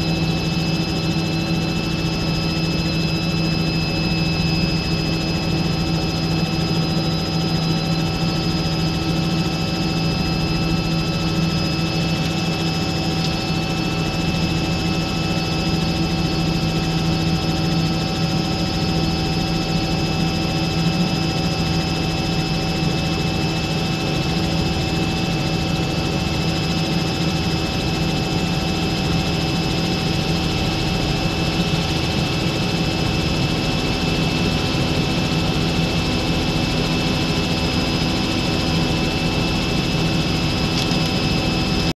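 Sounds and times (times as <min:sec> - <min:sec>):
helicopter rotor and engine drone: 0:00.0 - 0:41.9.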